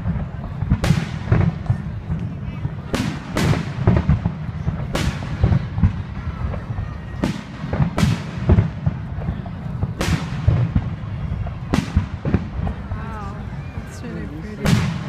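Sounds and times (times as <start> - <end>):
fireworks booms: 0.0 - 15.0.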